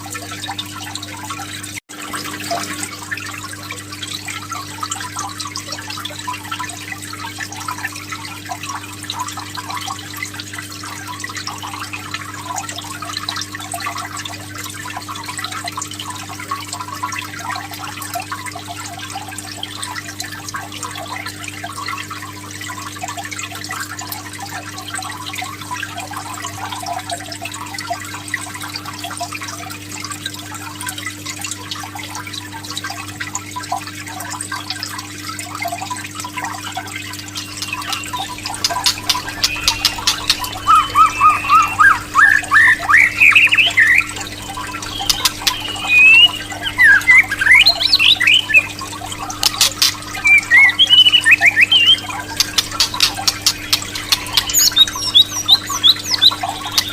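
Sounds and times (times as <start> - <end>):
water trickling and splashing: 0.0 - 56.9.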